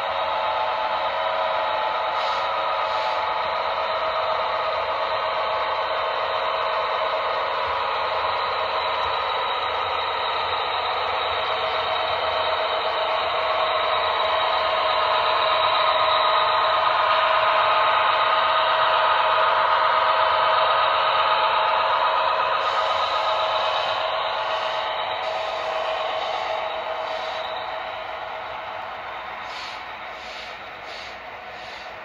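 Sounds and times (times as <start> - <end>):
model train running on track: 0.0 - 32.0.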